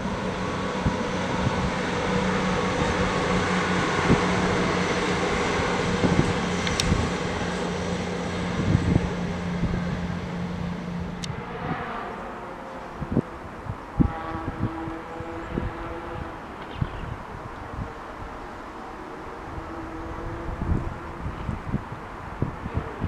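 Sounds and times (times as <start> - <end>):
diesel train engine drone: 0.0 - 23.0.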